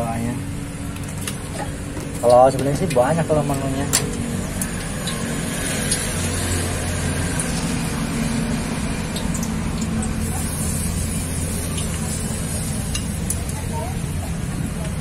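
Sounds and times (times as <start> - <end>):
road traffic noise: 0.0 - 15.0
vehicle engine low hum: 0.0 - 15.0.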